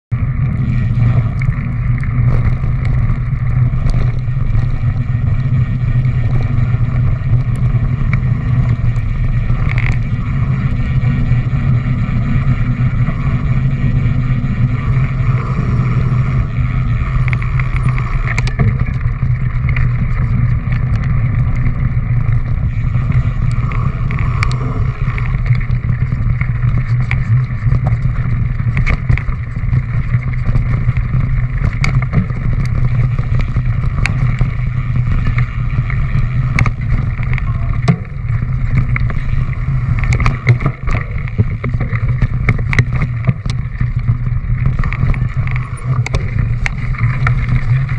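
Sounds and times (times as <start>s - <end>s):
bike rattling on dirt trail: 0.1s - 47.9s
wind rushing over camera: 0.1s - 47.9s.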